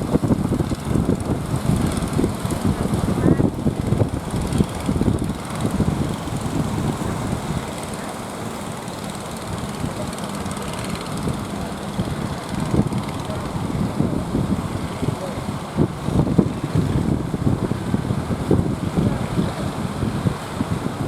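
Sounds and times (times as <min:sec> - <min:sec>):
boat engine running: 0:00.0 - 0:21.0
sea waves: 0:00.0 - 0:21.0
wind: 0:00.0 - 0:21.0.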